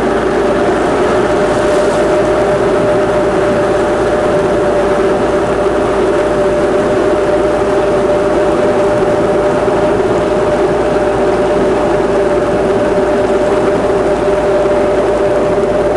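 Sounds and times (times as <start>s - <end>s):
power boat engine droning: 0.0s - 15.9s
rushing water noise: 0.0s - 15.9s.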